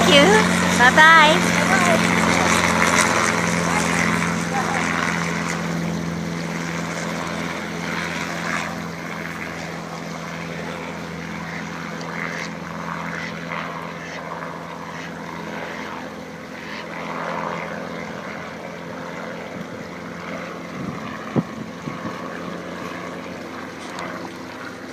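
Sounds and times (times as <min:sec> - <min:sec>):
distant helicopter hum: 0:00.0 - 0:24.9.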